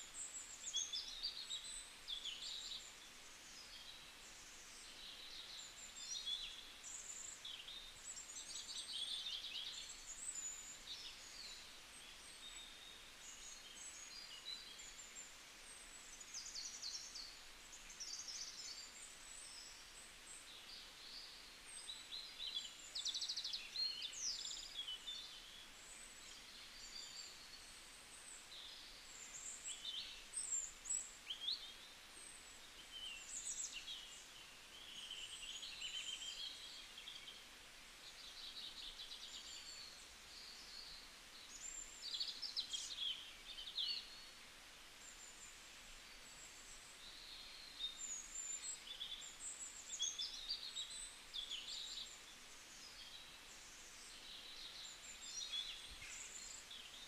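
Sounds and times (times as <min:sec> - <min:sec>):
faint outdoor hiss: 0:00.0 - 0:57.0
small birds chirping and trilling: 0:00.0 - 0:57.0.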